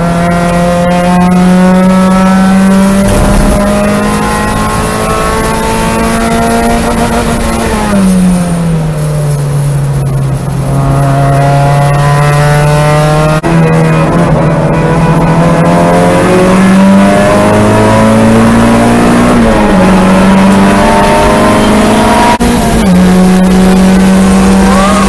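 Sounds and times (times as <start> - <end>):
car engine accelerating: 0.0 - 25.0
wind and road noise: 0.0 - 25.0.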